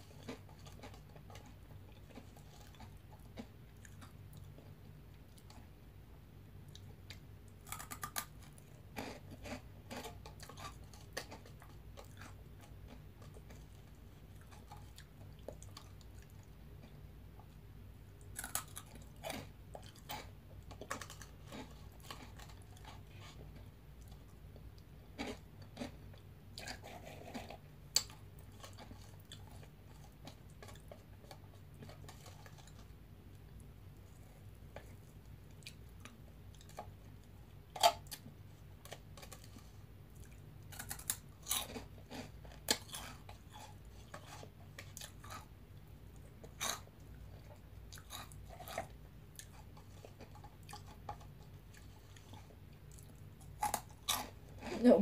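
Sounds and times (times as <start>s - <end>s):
crunchy snack chewing: 0.0s - 4.7s, 6.7s - 16.9s, 18.2s - 24.3s, 25.1s - 32.9s, 34.0s - 45.5s, 46.1s - 54.7s.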